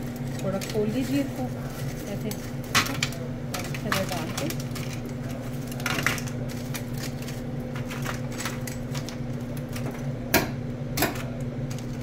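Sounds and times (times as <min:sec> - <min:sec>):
fries tumbling into foil bowl: 0:00.0 - 0:10.1
steady low hum: 0:00.0 - 0:12.0.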